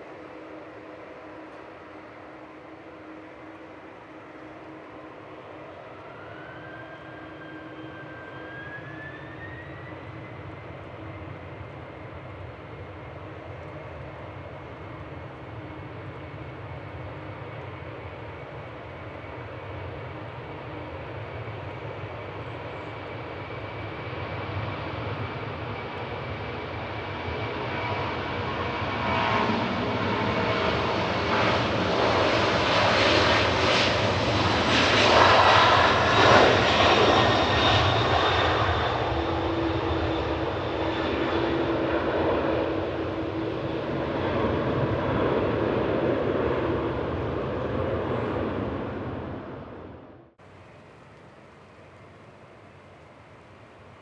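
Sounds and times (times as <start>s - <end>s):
jet airliner engines: 0.0s - 54.0s
jet engine whine: 0.0s - 54.0s.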